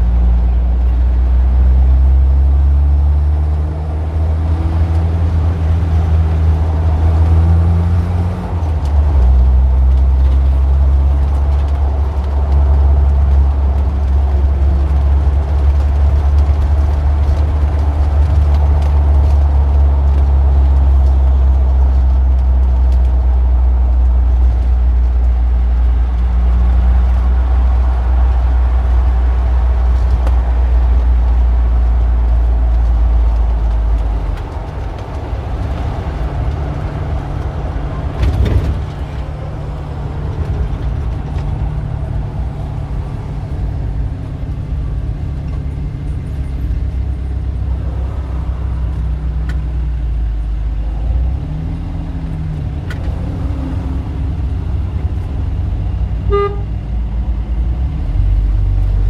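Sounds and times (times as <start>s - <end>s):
passing cars: 0.0s - 59.0s
vehicle engine low rumble: 0.0s - 59.0s.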